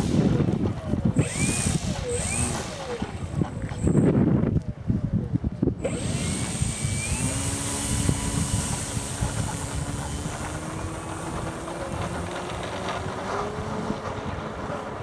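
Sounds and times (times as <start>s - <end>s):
model plane engine running: 0.0s - 4.1s, 5.8s - 15.0s
wind rumble on microphone: 0.0s - 15.0s.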